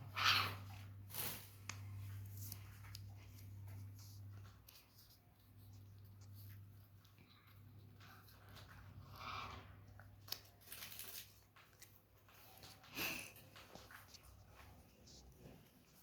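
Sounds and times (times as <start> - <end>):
parrots scratching and ticking: 0.1 - 16.0.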